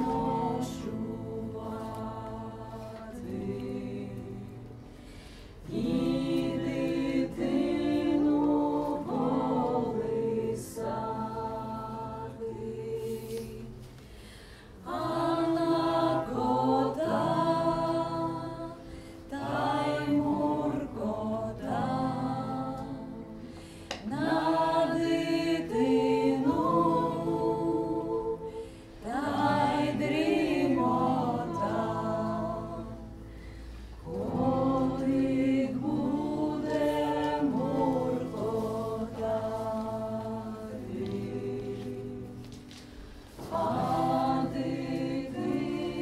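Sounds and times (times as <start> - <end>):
group singing unaccompanied: 0.0 - 13.9, 14.8 - 42.7, 43.3 - 46.0.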